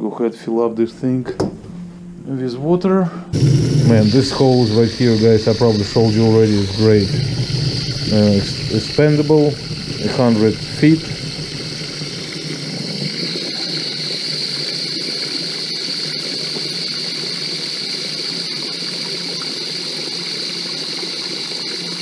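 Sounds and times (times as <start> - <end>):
bright hiss: 3.3 - 22.0
water running from hose into tank: 3.3 - 22.0.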